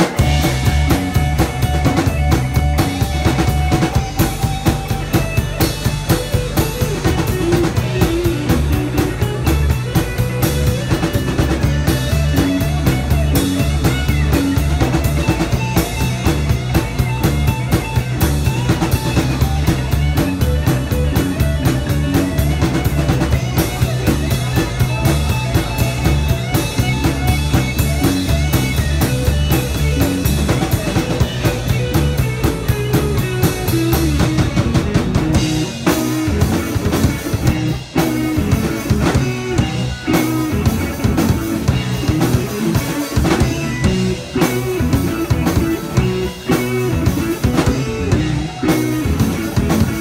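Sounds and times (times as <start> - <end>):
deep bass: 0.0 - 50.0
distorted electric guitar: 0.0 - 50.0
drum kit: 0.0 - 50.0.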